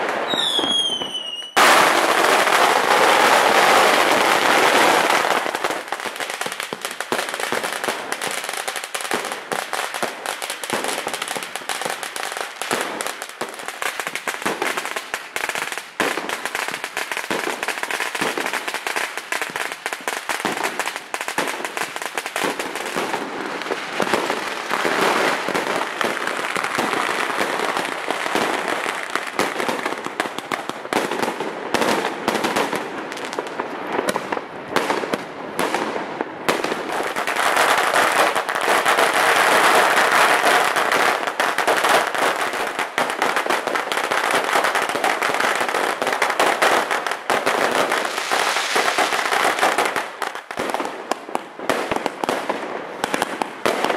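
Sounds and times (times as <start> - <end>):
fireworks banging: 0.0 - 12.0, 16.0 - 53.9
firecrackers crackling: 0.0 - 53.9.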